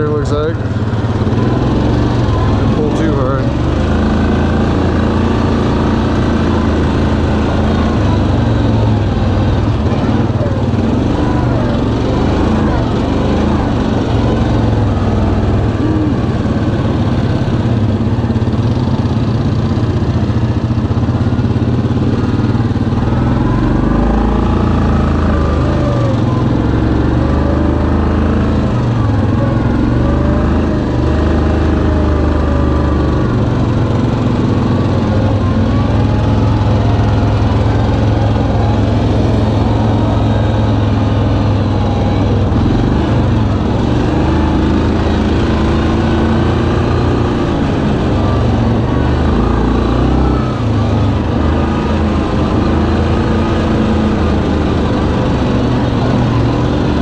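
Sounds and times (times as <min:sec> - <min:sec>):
atv engine revving on a trail: 0:00.0 - 0:57.0.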